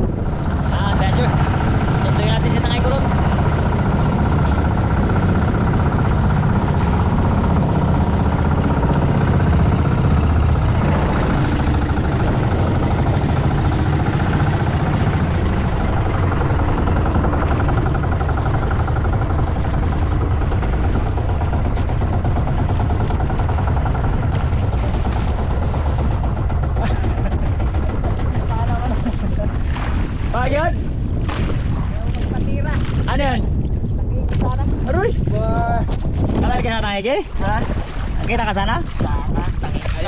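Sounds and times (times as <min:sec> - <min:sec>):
boat engine running: 0:00.0 - 0:40.0.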